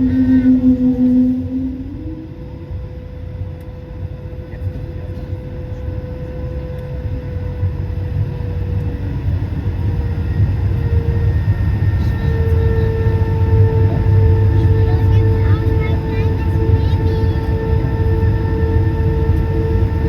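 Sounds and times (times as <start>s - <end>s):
jet engine rumble and whine: 0.0s - 20.0s.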